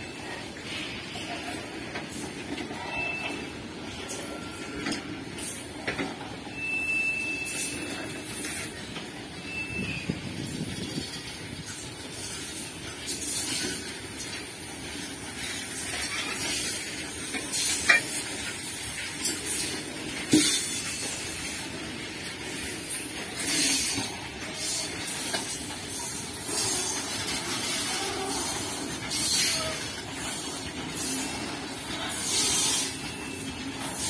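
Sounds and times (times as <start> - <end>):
train wheels rumbling on rails: 0.0 - 34.0
wagons clanking and rattling: 0.0 - 34.0.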